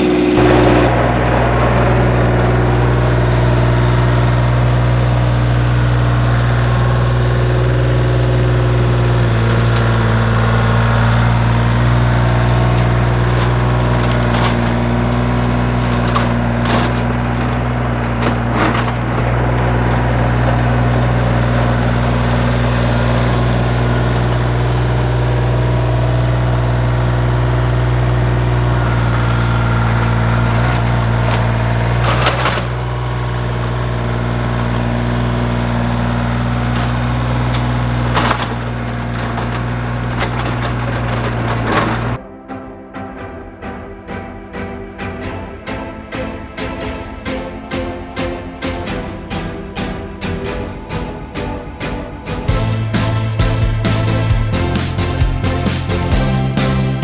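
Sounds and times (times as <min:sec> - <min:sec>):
tiller knocking: 0:00.0 - 0:42.2, 0:48.8 - 0:57.0
tiller tines chopping ground: 0:00.0 - 0:42.2, 0:52.5 - 0:57.0
tractor diesel engine running: 0:00.0 - 0:42.3, 0:44.2 - 0:57.0.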